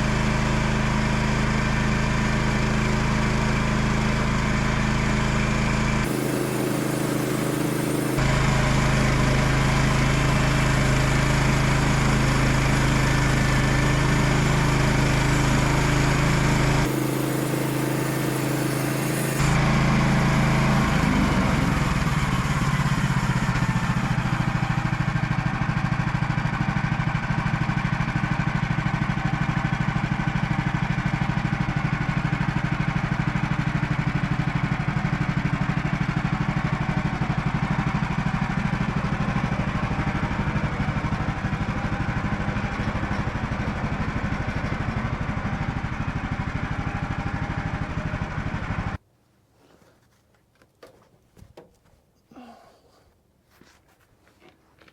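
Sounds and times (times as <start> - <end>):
gasoline engine running: 0.0 - 49.0.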